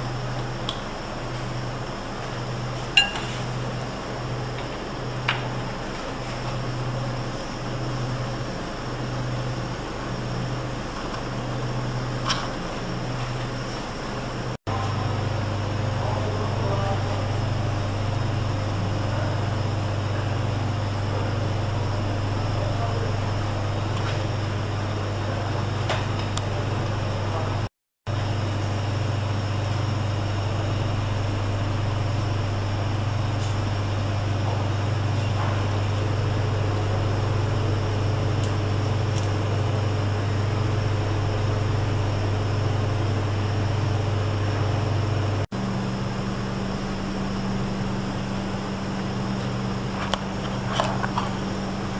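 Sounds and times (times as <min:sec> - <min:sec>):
kitchen ventilation hum: 0:00.0 - 0:51.9.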